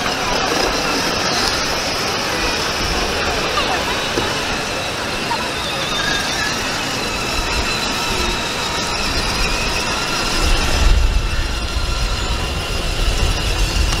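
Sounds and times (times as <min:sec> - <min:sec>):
deeper rumble: 0:00.0 - 0:14.0
plastic wheels rattling on pavers: 0:00.0 - 0:14.0
small electric motors running: 0:00.0 - 0:14.0.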